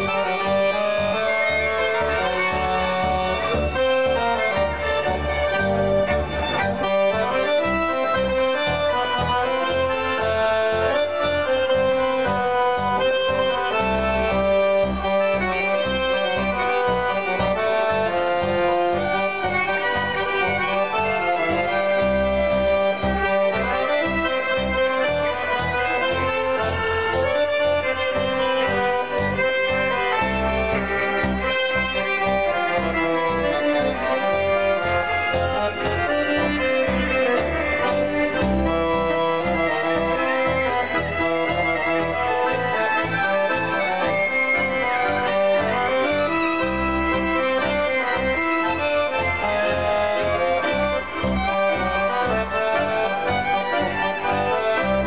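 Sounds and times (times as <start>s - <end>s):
button accordion playing tango: 0.0s - 55.0s
electronic keyboard pulsing bass: 0.0s - 55.0s.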